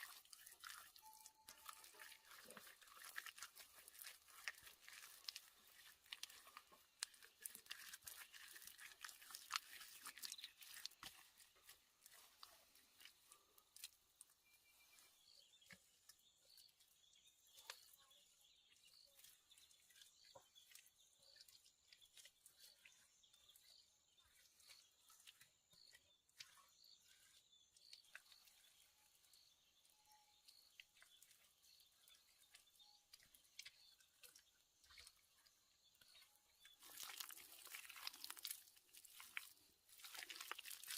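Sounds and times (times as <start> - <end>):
faint crunching and crackling clicks: 0.2 - 14.6, 15.3 - 18.2, 18.9 - 40.9.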